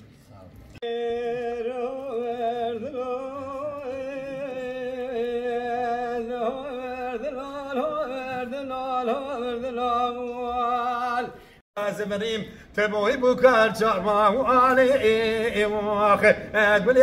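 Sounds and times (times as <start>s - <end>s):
man singing unaccompanied: 0.8s - 17.0s.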